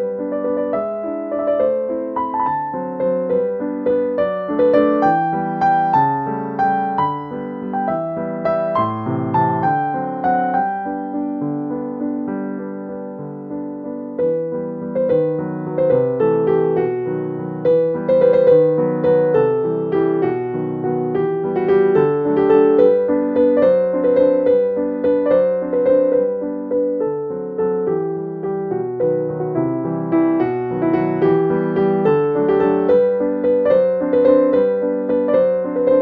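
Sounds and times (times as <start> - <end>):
gentle piano melody: 0.0 - 36.0.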